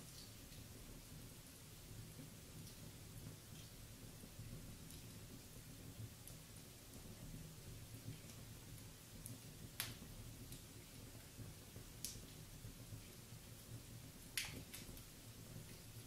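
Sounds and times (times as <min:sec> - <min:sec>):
faint low background noise: 0:00.0 - 0:16.0
wood fire crackling: 0:00.0 - 0:16.0.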